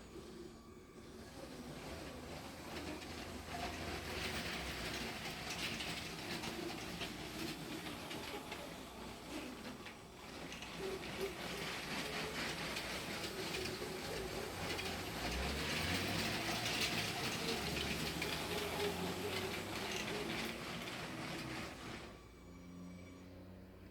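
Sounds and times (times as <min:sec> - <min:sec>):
wheels clattering over rails: 0:00.0 - 0:22.5
toy train motor whirring: 0:00.0 - 0:23.8.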